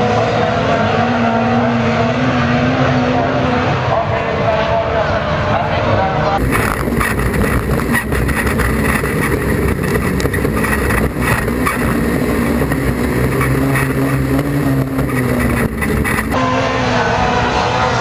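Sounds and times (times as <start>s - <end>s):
car engine racing: 0.0s - 18.0s.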